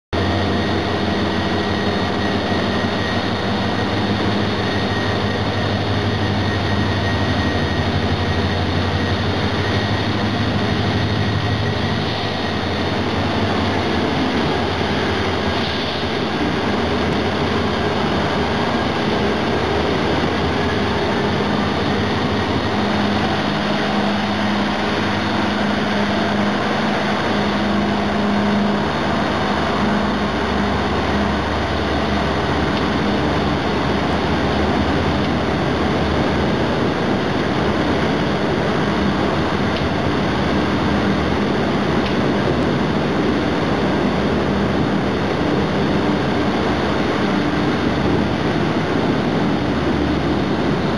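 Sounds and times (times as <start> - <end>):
diesel engine hum: 0.1 - 50.9
rushing noise: 0.1 - 50.9.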